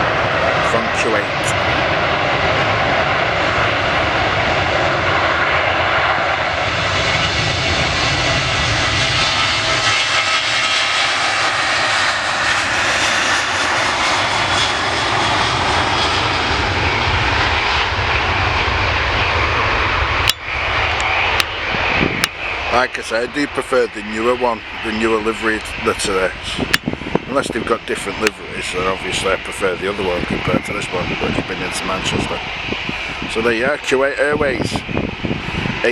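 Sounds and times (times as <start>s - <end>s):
jet engines of landing airliner: 0.0s - 35.9s.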